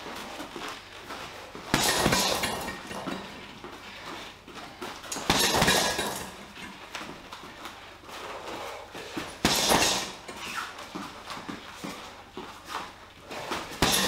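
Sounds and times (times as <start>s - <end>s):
boxing gloves hitting punching bag: 0.0s - 7.3s, 8.2s - 14.0s.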